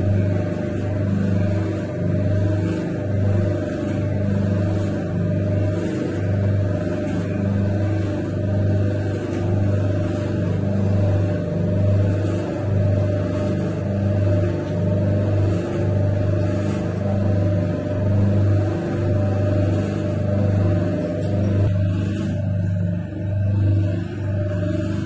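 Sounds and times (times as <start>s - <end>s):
dough mixer motor humming: 0.0s - 25.0s.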